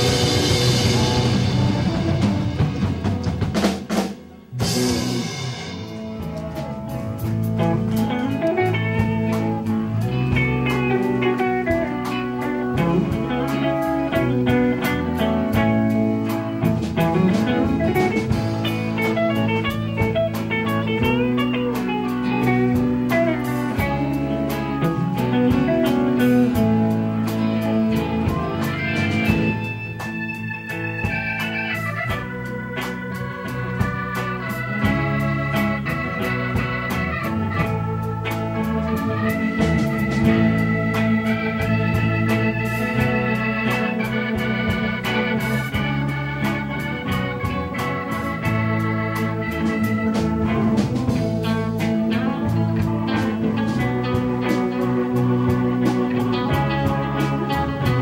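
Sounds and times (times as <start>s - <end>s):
blues-rock band playing: 0.0s - 58.0s
held keyboard chord: 0.0s - 58.0s
lead guitar bending notes: 0.0s - 58.0s.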